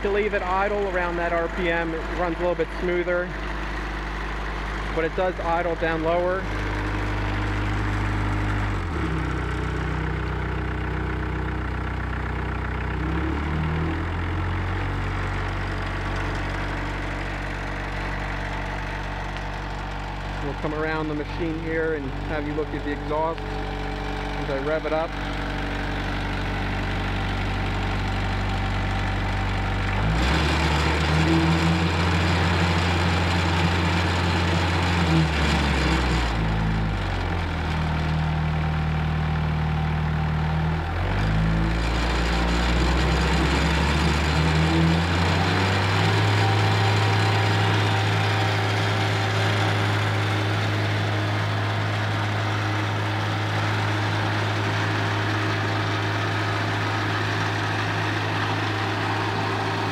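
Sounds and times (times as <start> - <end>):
diesel engine idling and revving: 0.0 - 59.9.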